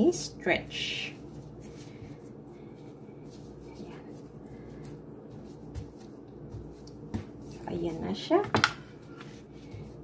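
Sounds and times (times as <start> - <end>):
plastic gloves rustling: 0.0 - 10.0
steady low hum: 0.0 - 10.0.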